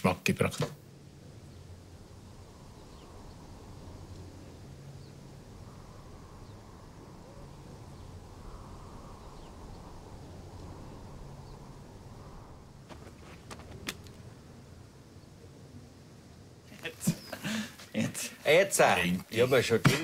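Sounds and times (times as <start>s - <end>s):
steady low hum: 0.0s - 18.5s
faint background noise: 0.0s - 20.0s.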